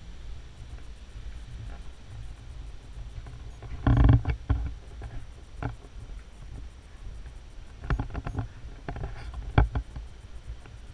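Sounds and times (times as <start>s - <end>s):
camera handling rumble: 1.6s - 10.8s.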